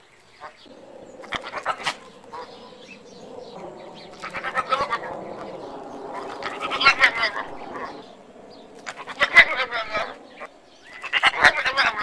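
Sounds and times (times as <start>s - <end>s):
animal calling: 0.0s - 12.0s.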